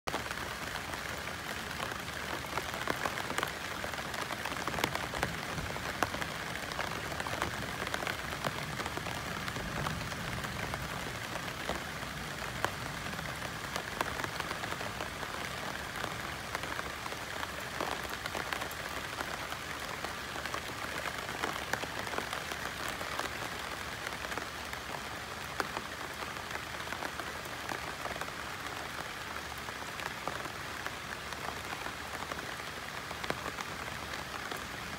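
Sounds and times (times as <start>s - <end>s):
rain pattering on leaves: 0.1s - 34.9s.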